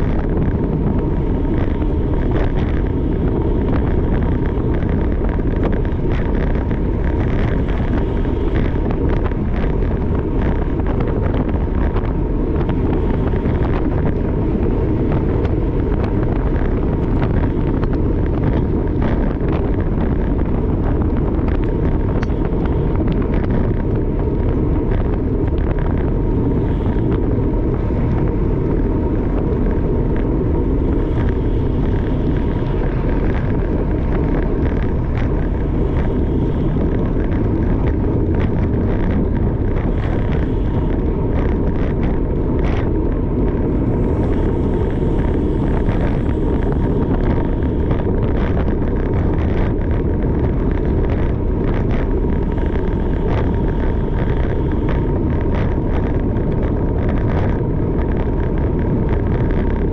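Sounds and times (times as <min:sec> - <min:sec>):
bicycle road noise rumble: 0:00.0 - 0:59.9
wind rush over microphone: 0:00.0 - 0:59.9.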